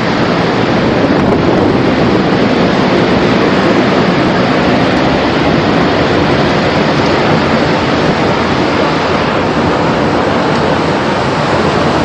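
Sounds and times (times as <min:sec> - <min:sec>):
tornado wind roaring: 0:00.0 - 0:12.0.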